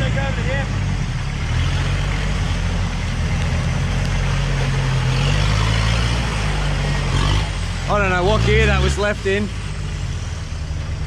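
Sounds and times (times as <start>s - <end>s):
off-road vehicle engine humming: 0.0s - 11.0s.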